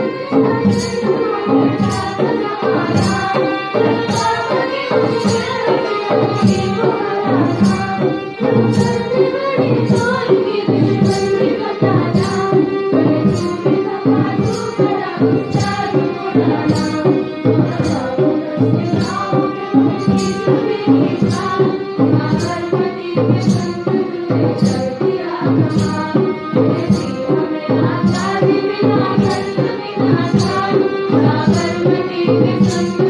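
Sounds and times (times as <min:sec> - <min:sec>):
girls singing together: 0:00.0 - 0:33.0
hand drums beat: 0:00.0 - 0:33.0
harmonium: 0:00.0 - 0:33.0.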